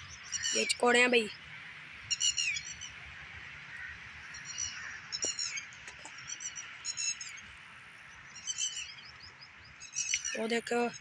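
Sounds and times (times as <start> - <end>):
partridges calling: 0.0 - 3.0, 3.7 - 11.0.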